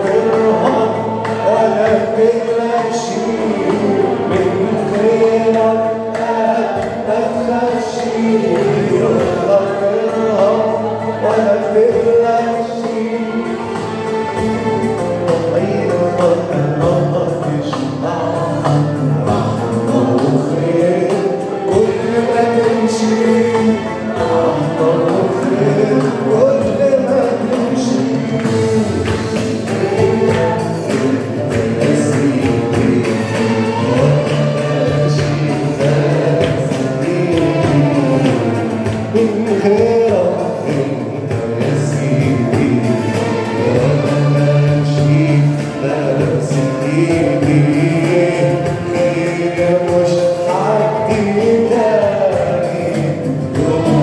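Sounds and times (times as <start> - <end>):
congregation singing: 0.0 - 54.0
instrumental accompaniment: 0.0 - 54.0
man singing into a microphone: 0.0 - 54.0.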